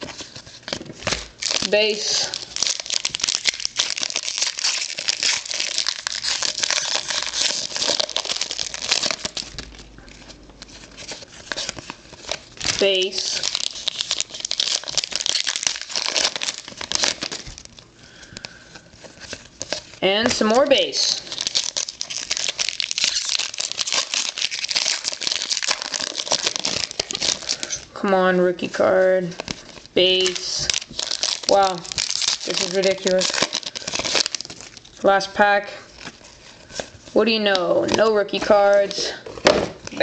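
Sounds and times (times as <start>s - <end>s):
foil wrapper crinkling: 0.0s - 28.0s, 28.6s - 40.0s.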